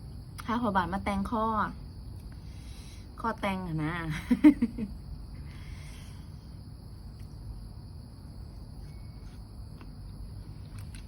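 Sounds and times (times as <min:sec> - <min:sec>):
insects chirring: 0:00.0 - 0:11.0
low background hum: 0:00.0 - 0:11.0.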